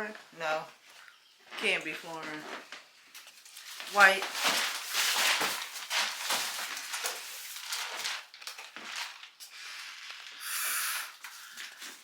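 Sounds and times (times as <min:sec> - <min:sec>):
rustling and crinkling: 0:00.0 - 0:10.4, 0:11.2 - 0:12.0.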